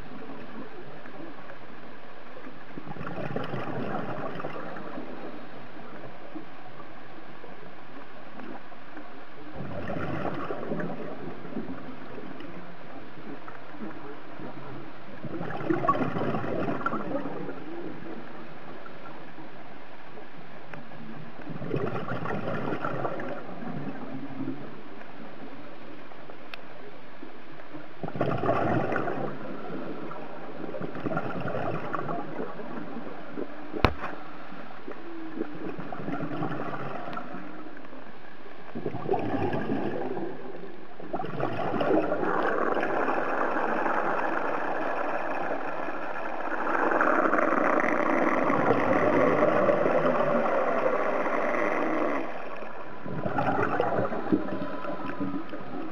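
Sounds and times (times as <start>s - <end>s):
underwater bubbles gurgling: 0.0s - 55.9s.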